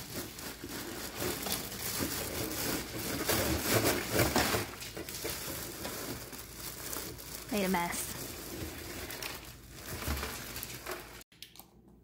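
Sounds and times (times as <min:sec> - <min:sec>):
ice rattling into bin: 0:00.0 - 0:11.2
plastic bag crinkling: 0:00.0 - 0:11.2.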